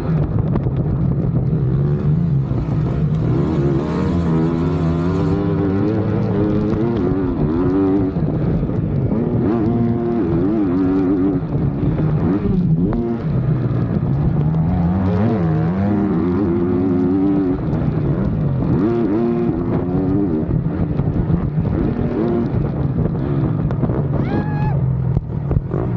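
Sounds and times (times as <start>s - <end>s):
dirt bike engines revving: 0.0s - 25.9s.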